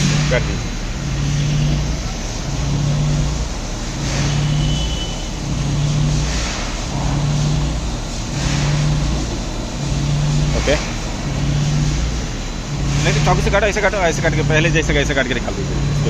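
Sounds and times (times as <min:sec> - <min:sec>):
machine humming in cycles: 0:00.0 - 0:16.0
steady noisy background: 0:00.0 - 0:16.0.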